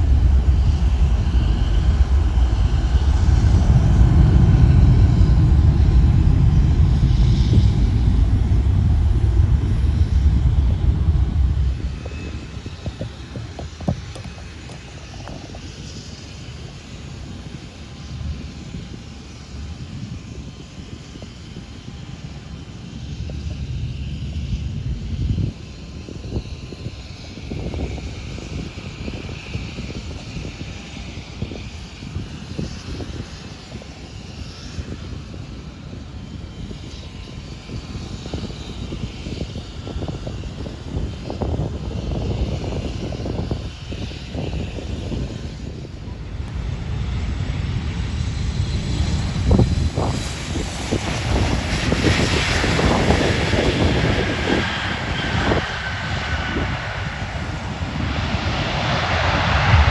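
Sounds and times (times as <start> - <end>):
airplane engine: 0.0 - 59.9
wind buffeting microphone: 0.0 - 59.9.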